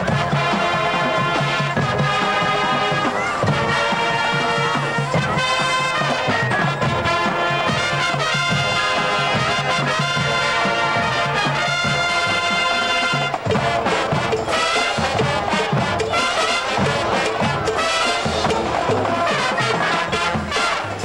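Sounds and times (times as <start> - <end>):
marching band brass: 0.0 - 21.0.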